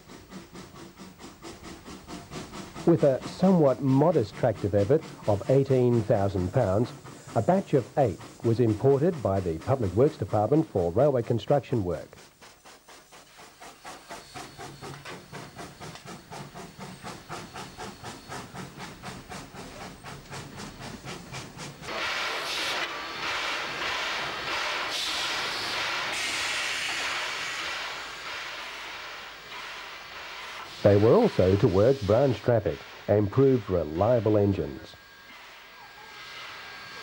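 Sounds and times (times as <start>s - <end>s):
steam hissing: 0.0s - 37.0s
steam locomotive exhaust chuffing: 0.0s - 37.0s.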